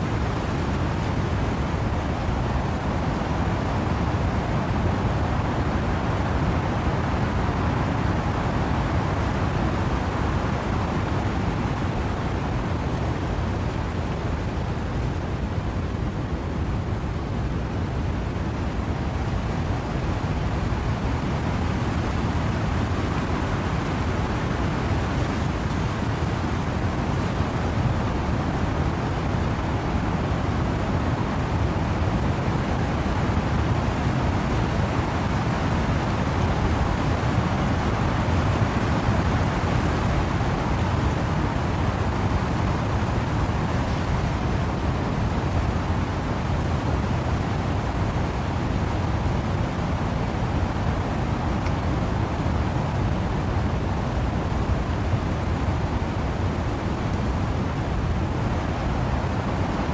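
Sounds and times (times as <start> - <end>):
wind and rain in trees: 0.0 - 59.9.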